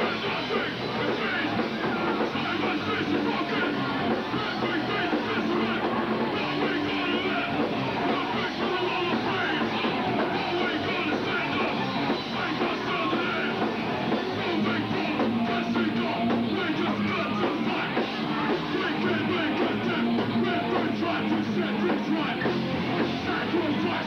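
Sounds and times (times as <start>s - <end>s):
drums: 0.0s - 24.0s
loud distorted guitar: 0.0s - 24.0s
punk band playing live: 0.0s - 24.0s.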